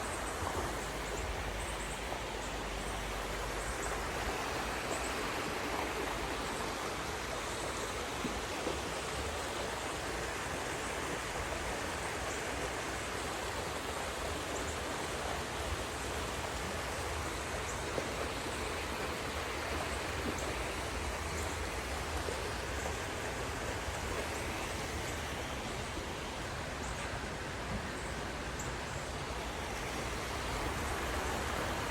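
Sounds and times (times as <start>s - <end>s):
creek water running: 0.0s - 31.9s.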